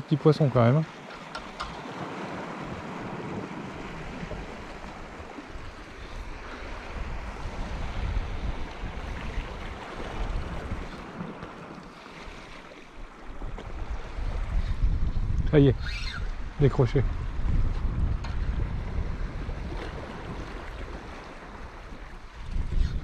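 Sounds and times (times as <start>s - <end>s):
sea waves against rocks: 0.0s - 23.0s
wind buffeting microphone: 1.2s - 11.6s, 13.2s - 23.0s.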